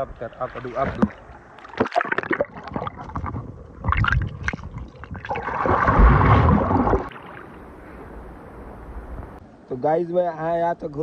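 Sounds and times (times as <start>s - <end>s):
water gurgling and sloshing: 0.0s - 9.1s.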